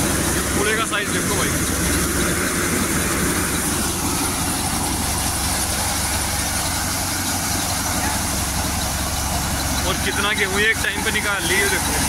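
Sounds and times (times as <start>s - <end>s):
tractor engine and thresher running: 0.0s - 12.0s.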